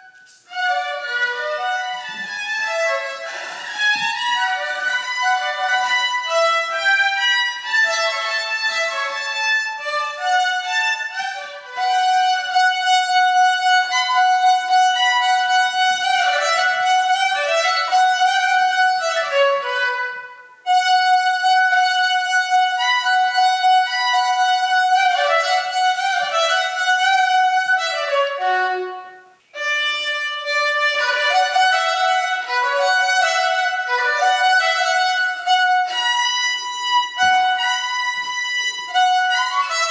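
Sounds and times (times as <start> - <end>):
solo violin melody: 0.0 - 39.9.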